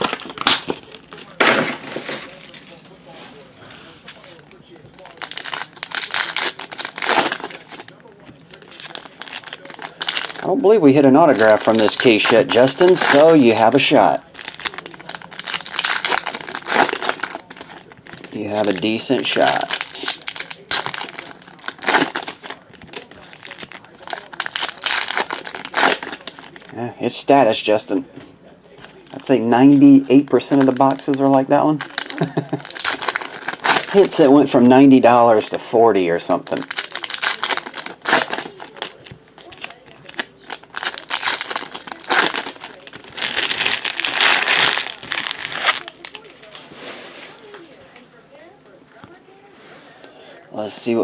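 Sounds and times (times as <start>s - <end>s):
card pack wrappers crinkling: 0.0s - 2.8s, 4.3s - 27.3s, 28.8s - 35.6s, 36.2s - 46.6s.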